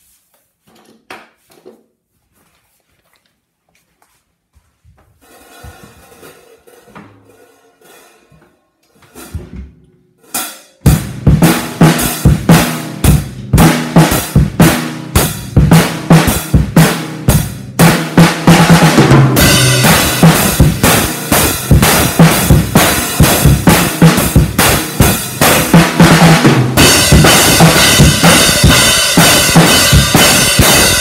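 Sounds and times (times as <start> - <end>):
acoustic drum kit beat: 5.2 - 31.0.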